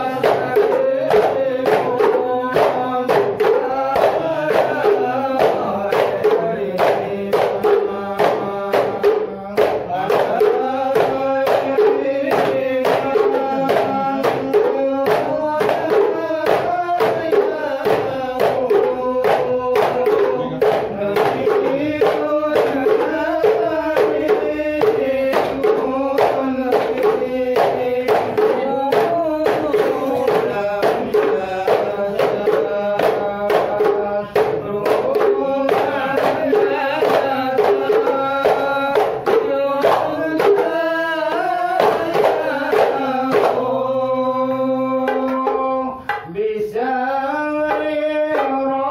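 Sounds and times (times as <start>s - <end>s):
hand-struck frame drums: 0.0s - 48.9s
voices singing together: 0.0s - 48.9s.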